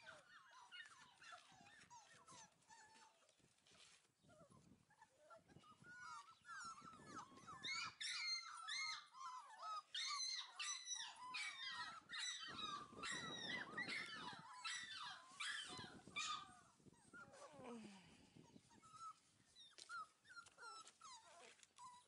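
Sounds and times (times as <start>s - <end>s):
puppies whimpering and yipping: 0.0s - 17.8s, 18.5s - 22.0s.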